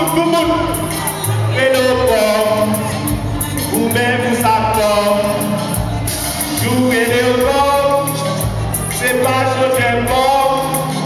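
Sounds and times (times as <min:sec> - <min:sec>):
hip-hop backing track: 0:00.0 - 0:11.0.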